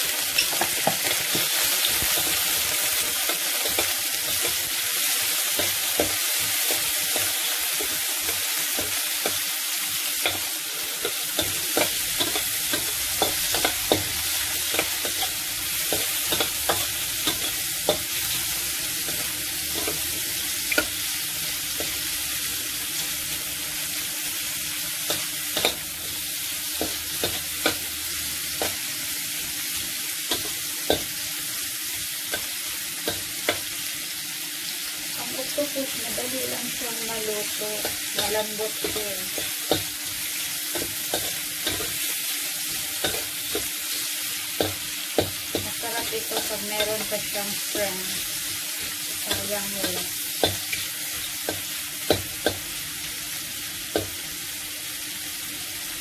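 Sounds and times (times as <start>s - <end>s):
oil sizzling in a wok: 0.0s - 56.0s.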